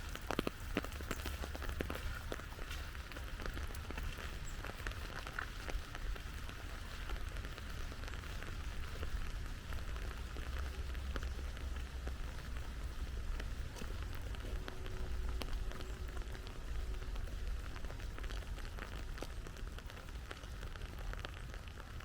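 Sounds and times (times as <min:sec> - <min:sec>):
low steady rumble: 0:00.0 - 0:22.0
raindrops pattering: 0:00.0 - 0:22.0.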